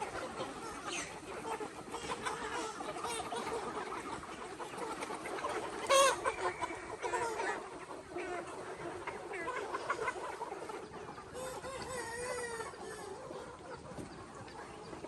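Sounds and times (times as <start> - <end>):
chicken squawk: 0.0 - 14.8
chickens clucking: 0.0 - 15.0.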